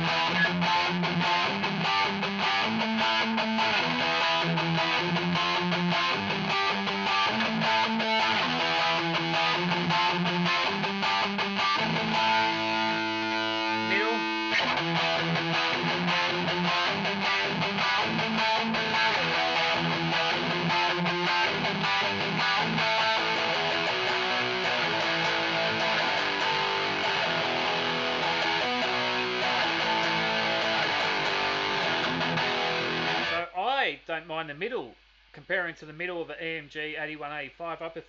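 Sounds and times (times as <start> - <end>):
distorted electric guitar riff: 0.0 - 33.6.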